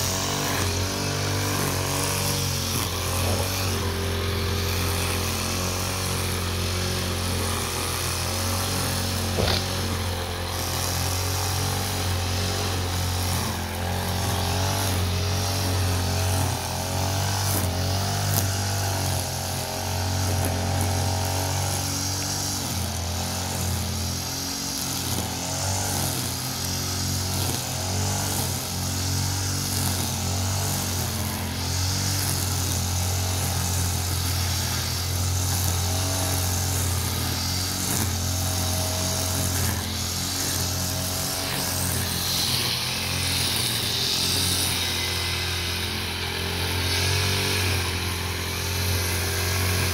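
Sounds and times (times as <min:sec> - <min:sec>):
brush cutter engine running: 0:00.0 - 0:49.9.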